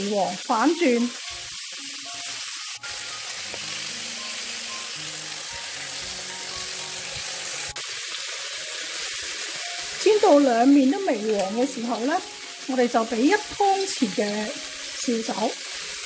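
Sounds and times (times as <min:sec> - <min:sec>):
chicken sizzling in oil: 0:00.0 - 0:16.0
soft background music: 0:00.0 - 0:16.0.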